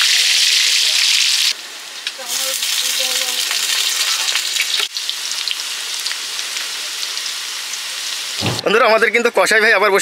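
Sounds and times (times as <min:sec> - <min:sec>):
potatoes sizzling in hot oil: 0:00.0 - 0:08.4.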